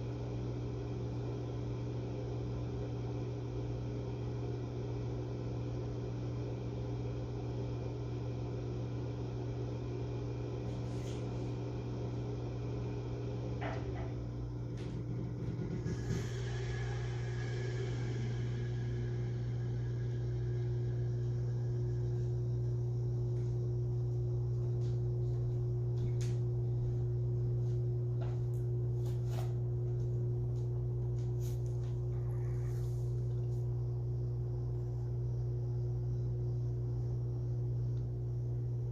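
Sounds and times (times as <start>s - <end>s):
air conditioner unit humming: 0.0s - 38.9s.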